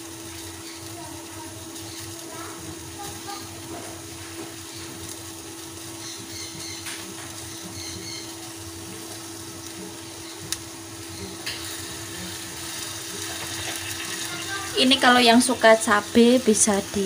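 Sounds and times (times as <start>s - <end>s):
chicken sizzling on grill pan: 0.0s - 17.0s.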